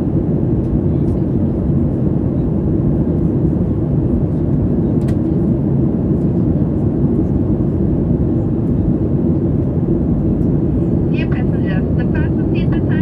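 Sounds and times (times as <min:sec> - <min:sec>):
jet engine cabin noise: 0:00.0 - 0:13.0.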